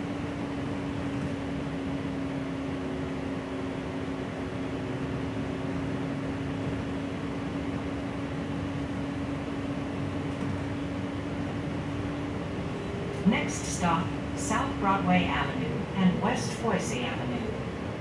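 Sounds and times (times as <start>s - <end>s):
bus cabin drone: 0.0s - 18.0s.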